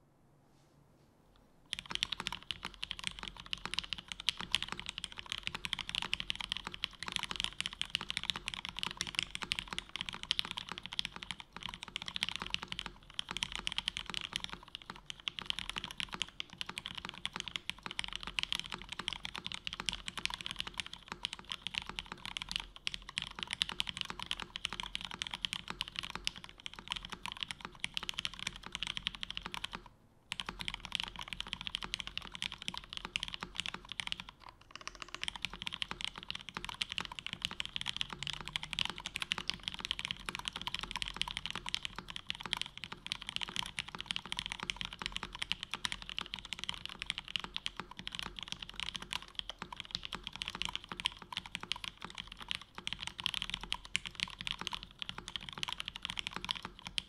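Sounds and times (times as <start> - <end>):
fast typing on mechanical keyboard: 1.7 - 57.0.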